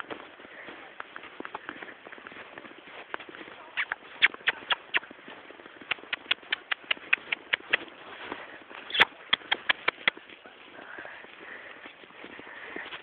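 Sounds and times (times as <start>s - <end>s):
footsteps crunching in snow: 0.0s - 13.0s.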